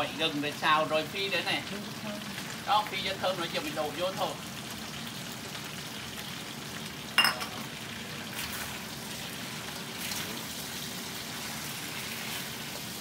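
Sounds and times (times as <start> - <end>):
lobster sizzling in a wok: 0.0 - 13.0.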